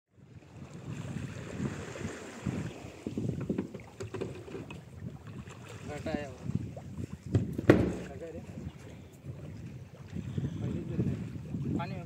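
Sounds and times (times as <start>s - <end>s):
choppy sea against boat hull: 0.1s - 12.0s
wind gusting on microphone: 0.2s - 12.0s.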